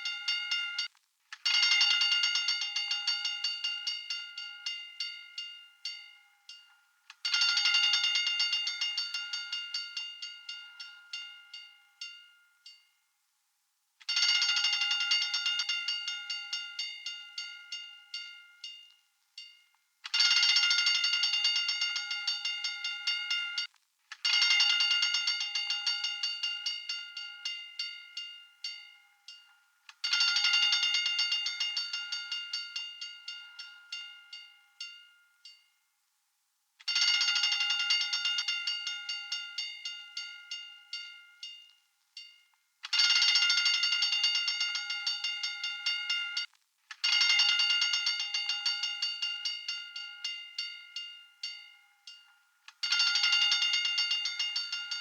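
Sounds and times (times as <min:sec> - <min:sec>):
hand-cranked fire alarm bell: 0:00.0 - 0:00.9, 0:01.5 - 0:13.0, 0:14.0 - 0:35.8, 0:36.8 - 0:55.0.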